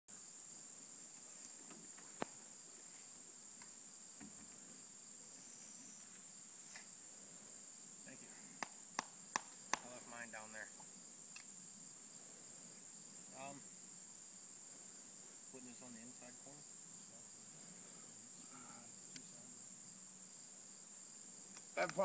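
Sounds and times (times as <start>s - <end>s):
crickets chirping: 0.1s - 22.0s.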